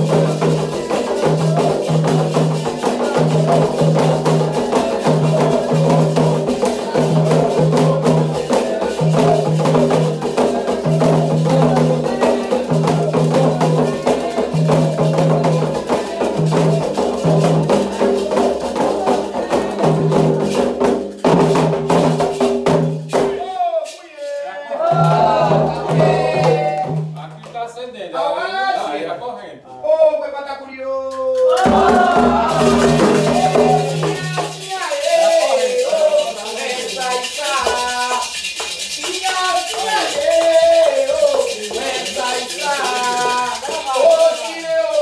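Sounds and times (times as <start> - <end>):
hand drums rhythm: 0.0 - 24.0, 24.8 - 27.7, 31.2 - 45.0.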